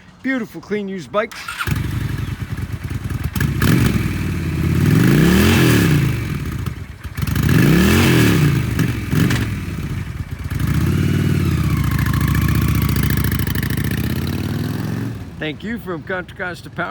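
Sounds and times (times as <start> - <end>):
motorcycle engine idling and revving: 1.3 - 16.9.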